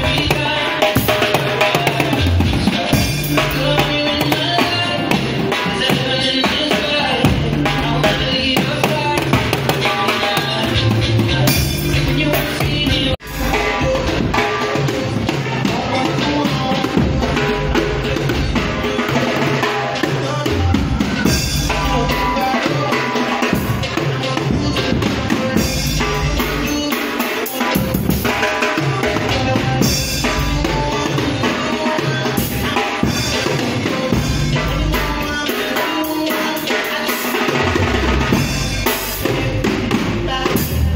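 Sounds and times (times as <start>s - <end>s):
drum kit playing: 0.0s - 40.9s.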